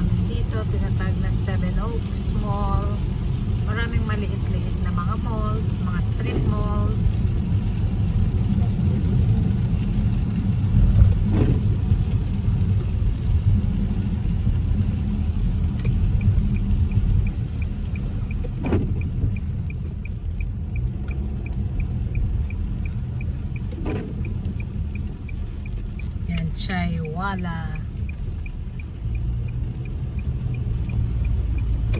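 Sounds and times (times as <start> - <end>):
car road noise rumble: 0.0 - 31.9
turn signal clicking: 0.1 - 31.9.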